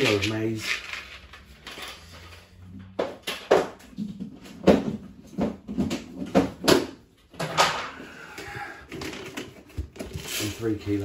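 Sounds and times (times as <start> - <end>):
objects knocking and thudding: 0.0 - 10.6.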